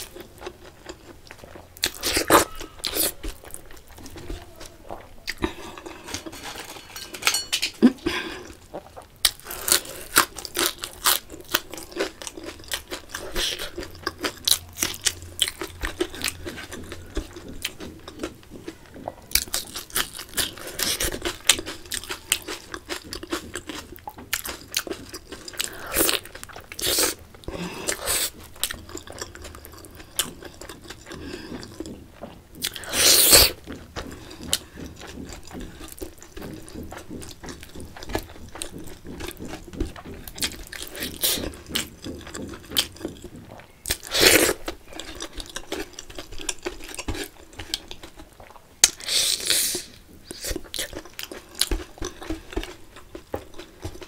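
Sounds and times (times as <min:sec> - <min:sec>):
chewing and crunchy bites: 0:00.0 - 0:54.0.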